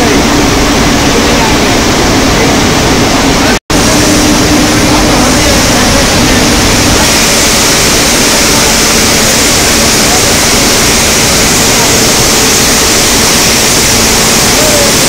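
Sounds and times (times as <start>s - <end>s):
billet caster rushing noise: 0.0s - 15.0s.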